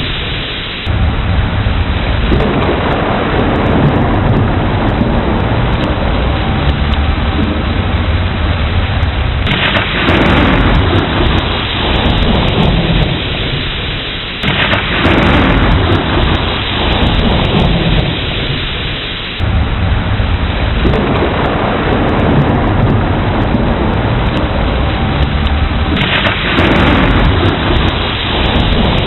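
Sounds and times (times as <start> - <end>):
heavy rain: 0.0 - 29.0
low rolling thunder: 0.0 - 29.0.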